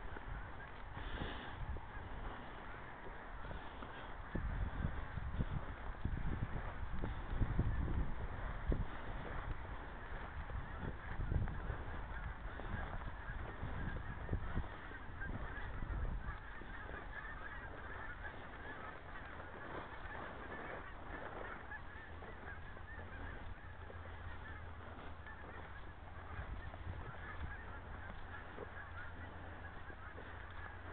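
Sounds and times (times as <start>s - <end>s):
flock of birds calling: 0.0s - 30.9s.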